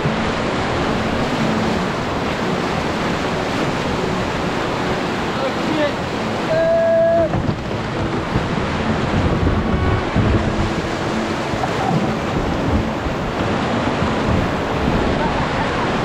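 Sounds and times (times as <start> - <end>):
whitewater rushing and splashing: 0.0 - 16.0
wind buffeting microphone: 0.0 - 16.0.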